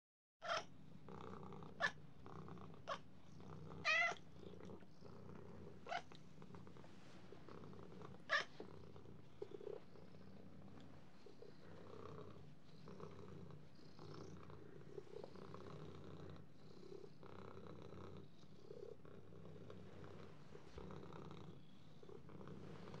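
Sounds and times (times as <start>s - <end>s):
cat purring: 0.6s - 23.0s.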